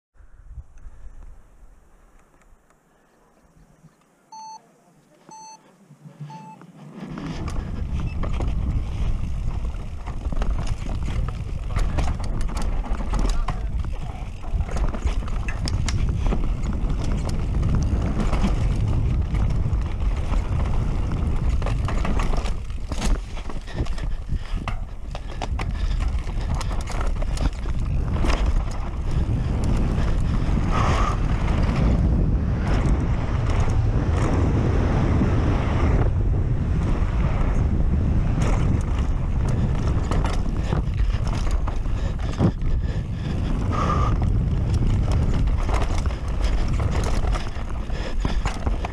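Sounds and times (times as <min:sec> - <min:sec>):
bike knocking and rattling: 0:06.0 - 0:35.2, 0:35.9 - 0:48.9
tyres rumbling on dirt: 0:06.0 - 0:48.9
wind on microphone: 0:06.9 - 0:48.9.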